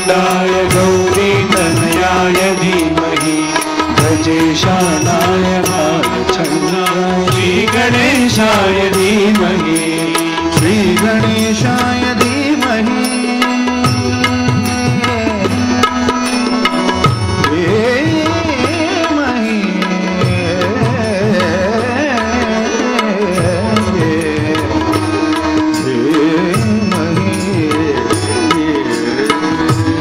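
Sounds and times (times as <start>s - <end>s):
man singing ornamented melody: 0.0s - 30.0s.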